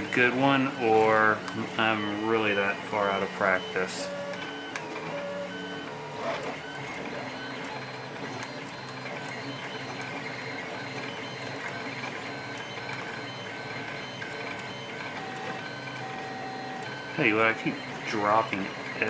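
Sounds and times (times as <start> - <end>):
printer motors whining: 0.0 - 19.0.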